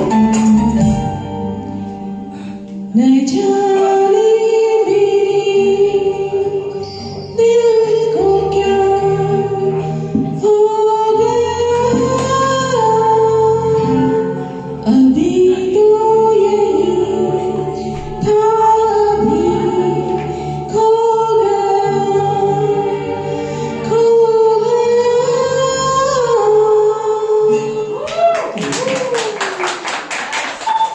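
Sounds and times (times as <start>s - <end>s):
instrumental backing track: 0.0s - 28.0s
woman singing: 2.9s - 28.2s.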